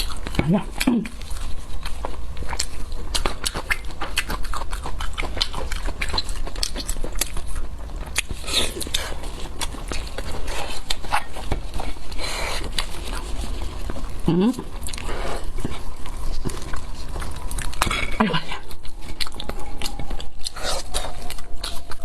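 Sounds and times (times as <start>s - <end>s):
low hum: 0.0s - 20.2s.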